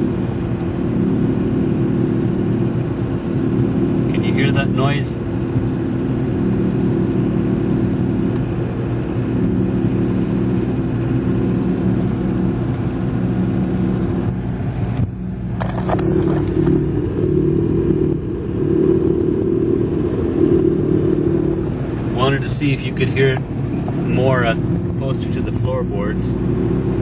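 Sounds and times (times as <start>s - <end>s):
car engine drone: 0.0s - 27.0s.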